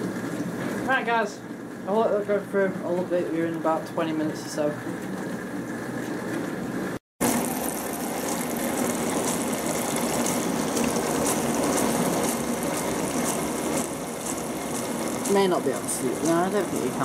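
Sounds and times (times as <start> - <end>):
dishwasher filling with water: 0.0 - 17.0.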